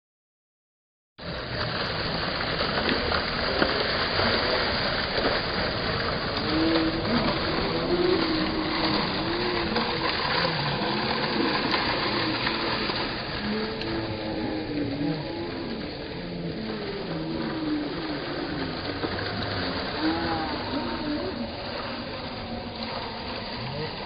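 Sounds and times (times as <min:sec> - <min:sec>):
fountain water splashing on stone: 0:01.2 - 0:24.0.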